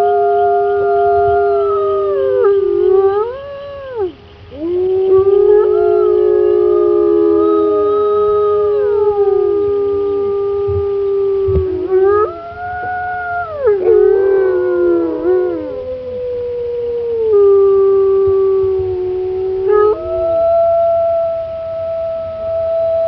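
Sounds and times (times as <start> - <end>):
dogs howling in chorus: 0.0 - 23.0.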